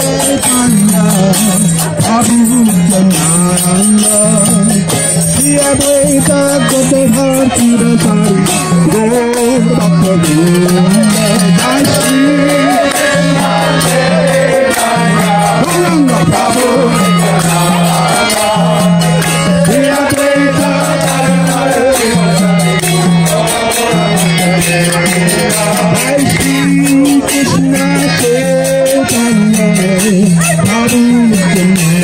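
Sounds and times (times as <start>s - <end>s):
harmonium held notes: 0.0s - 32.0s
jingling hand percussion: 0.0s - 32.0s
voices singing: 0.0s - 32.0s.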